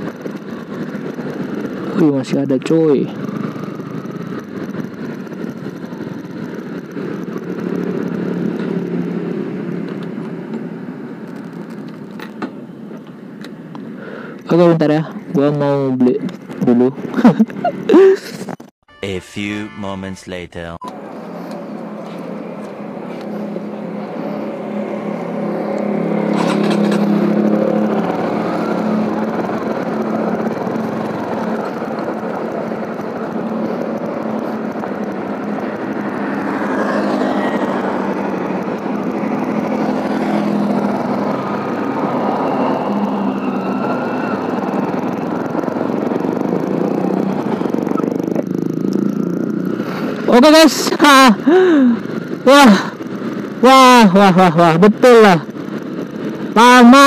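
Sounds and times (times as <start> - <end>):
motorcycle engine: 0.0 - 12.2, 21.0 - 57.0
road and wind noise: 0.0 - 18.8, 20.8 - 57.0.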